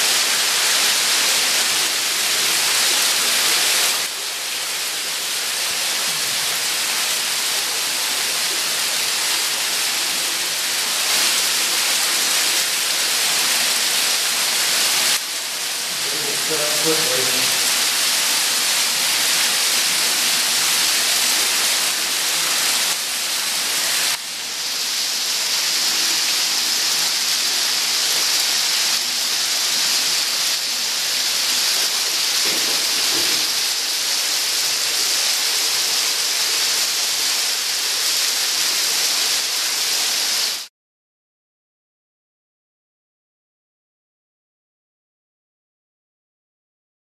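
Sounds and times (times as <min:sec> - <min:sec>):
small waterfall splashing: 0:00.0 - 0:40.7.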